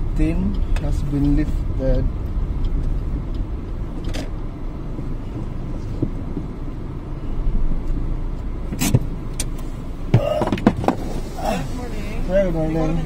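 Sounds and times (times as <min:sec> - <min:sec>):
car driving rumble inside cabin: 0:00.0 - 0:13.0.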